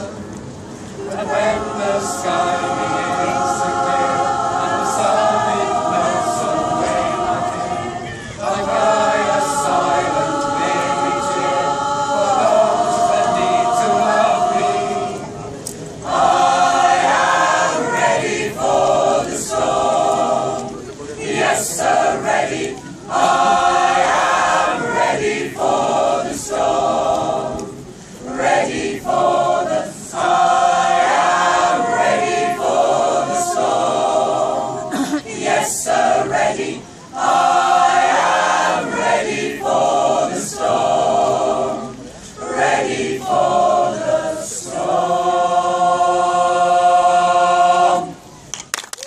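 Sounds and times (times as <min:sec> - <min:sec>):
mixed choir singing unaccompanied: 0:00.0 - 0:48.5.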